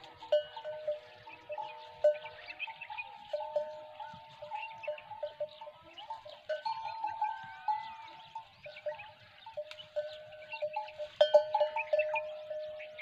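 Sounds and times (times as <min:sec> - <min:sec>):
livestock bells clanking: 0:00.0 - 0:13.0
small birds chirping: 0:00.0 - 0:13.0.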